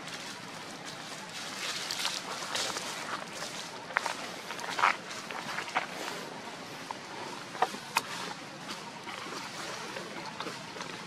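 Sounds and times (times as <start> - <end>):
rushing outdoor background noise: 0.0 - 11.0.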